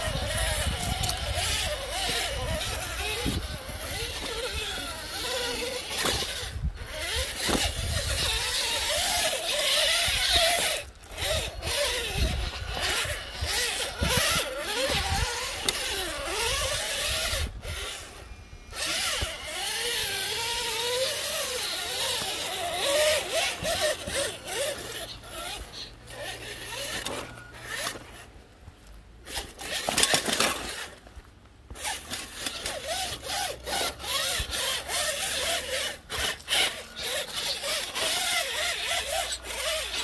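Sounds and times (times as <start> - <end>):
toy car electric motor whining: 0.0 - 31.1, 31.7 - 40.0.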